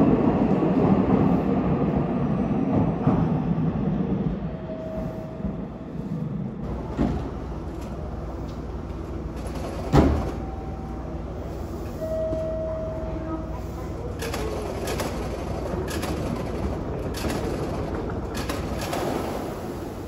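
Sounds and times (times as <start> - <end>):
electric train rumbling to a stop: 0.0 - 20.0.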